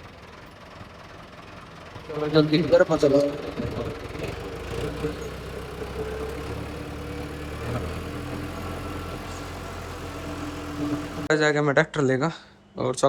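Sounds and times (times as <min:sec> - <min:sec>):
tractor engine running: 0:00.0 - 0:11.3.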